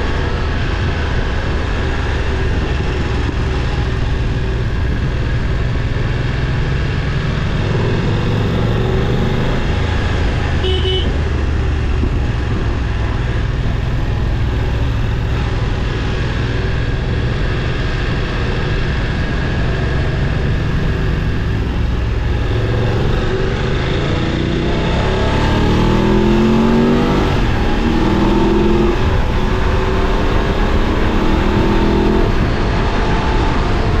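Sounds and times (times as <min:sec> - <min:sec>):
motorcycle engine: 0:00.0 - 0:34.0.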